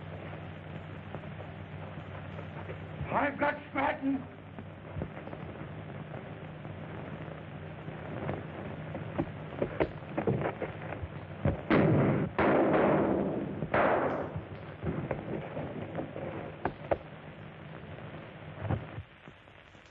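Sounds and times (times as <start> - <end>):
film track hiss: 0.0 - 19.9.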